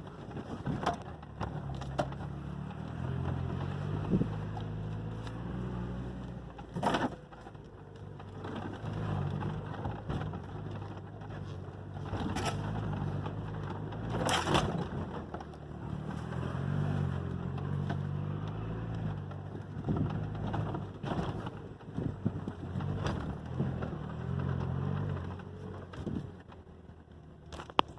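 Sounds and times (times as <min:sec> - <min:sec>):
engine running at low revs: 0:00.0 - 0:27.9.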